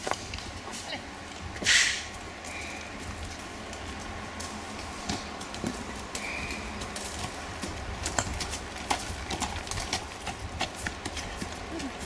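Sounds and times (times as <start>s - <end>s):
hooves striking dirt: 0.0s - 12.0s.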